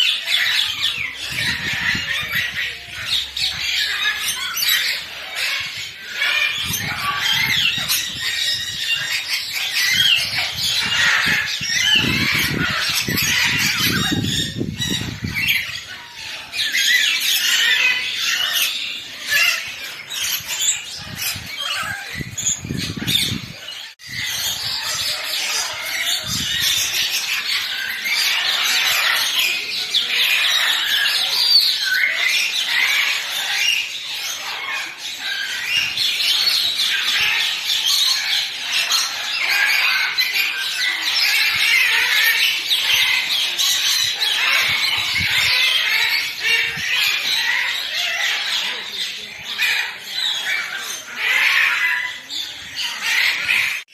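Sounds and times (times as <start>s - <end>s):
many birds chirping and squawking: 0.0s - 53.9s.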